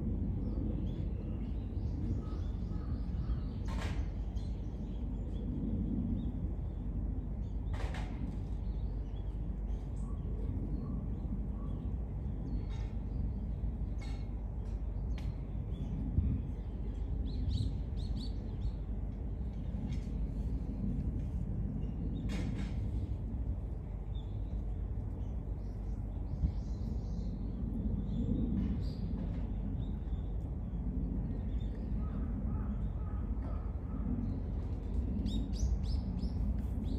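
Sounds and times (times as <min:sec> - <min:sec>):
steady low rumble: 0:00.0 - 0:36.9.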